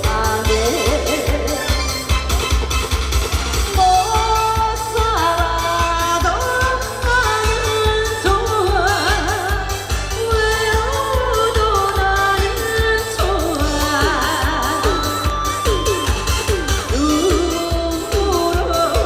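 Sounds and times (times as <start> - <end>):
woman singing with vibrato: 0.0 - 2.1, 3.7 - 19.0
backing track with bass beat: 0.0 - 19.0.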